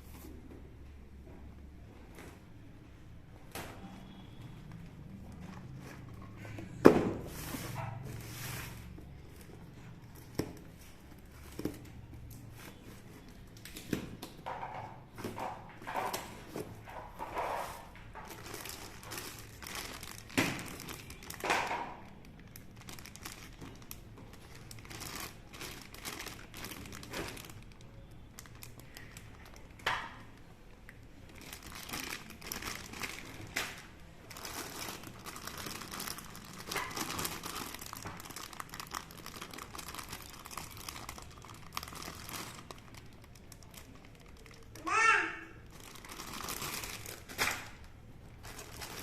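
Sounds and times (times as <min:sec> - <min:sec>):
plastic packaging crinkling: 0:04.1 - 0:44.9, 0:45.6 - 0:49.0.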